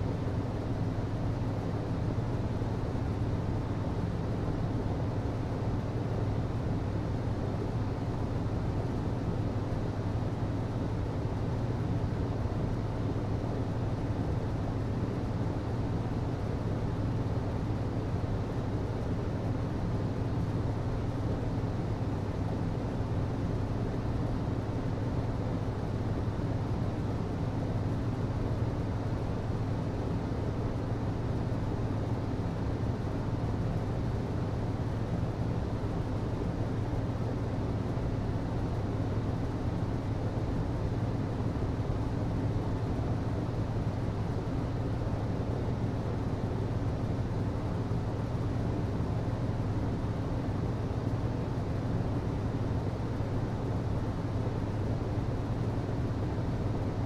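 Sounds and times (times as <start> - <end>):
hvac unit humming: 0.0 - 57.0.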